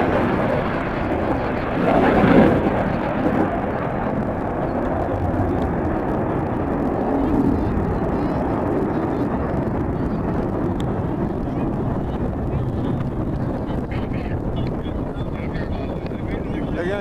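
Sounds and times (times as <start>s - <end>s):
airplane engine rumble: 0.0s - 17.0s.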